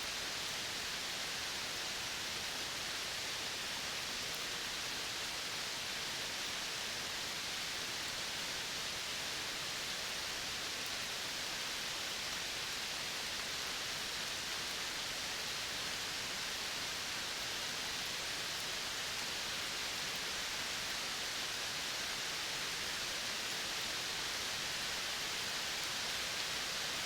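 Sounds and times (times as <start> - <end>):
tropical forest ambience hiss: 0.0 - 27.0.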